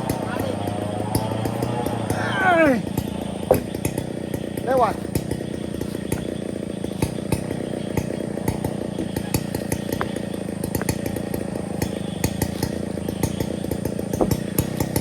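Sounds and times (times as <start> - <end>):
chainsaw engine running: 0.0 - 15.0.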